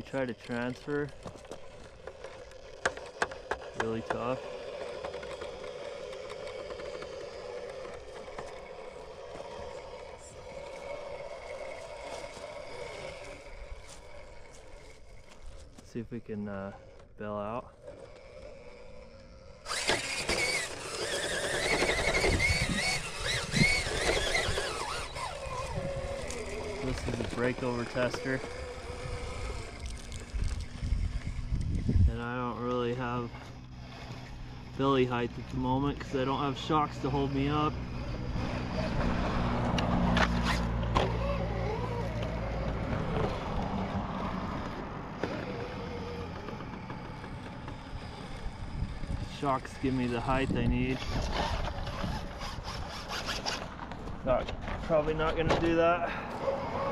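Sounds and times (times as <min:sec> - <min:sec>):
electric motor and gears whining: 0:00.0 - 0:56.9.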